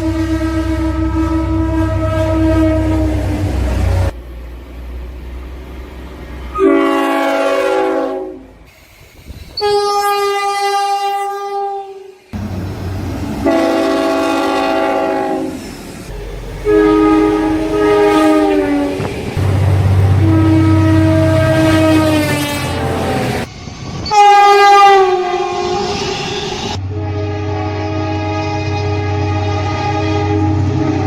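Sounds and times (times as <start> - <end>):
train chord horn blasts: 0.0 - 4.1, 6.5 - 8.6, 9.6 - 12.2, 13.4 - 23.5, 24.1 - 26.0, 26.8 - 31.0
low train rumble: 0.0 - 31.0.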